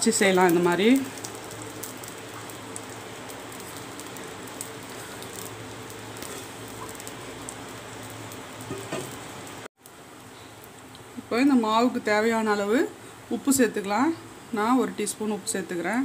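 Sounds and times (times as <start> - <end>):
batter sizzling in a pan: 0.0 - 16.0.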